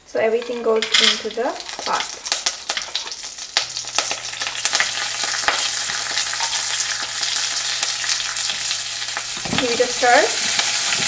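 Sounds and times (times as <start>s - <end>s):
food sizzling in hot oil: 0.3s - 11.0s.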